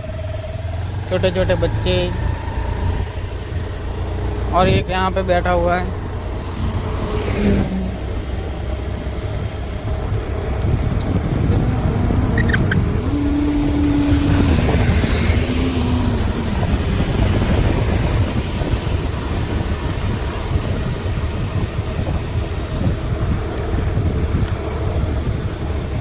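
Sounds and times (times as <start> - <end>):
engine hum rising in pitch: 0.0 - 26.0
vehicle engine rumble: 0.0 - 26.0
wind on microphone: 0.0 - 26.0.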